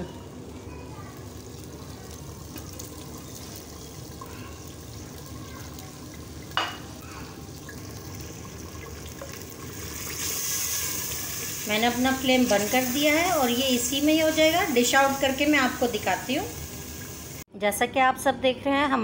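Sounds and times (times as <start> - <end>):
gravy sizzling: 0.0 - 17.5.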